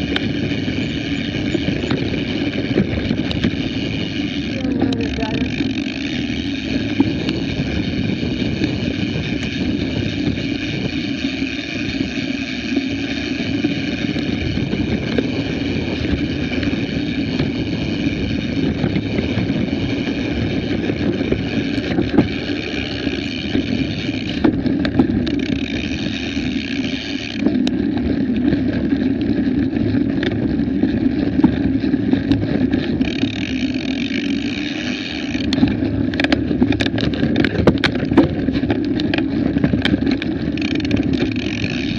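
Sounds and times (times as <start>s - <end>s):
bike rolling over dirt: 0.0s - 41.9s
wind on microphone: 0.0s - 41.9s.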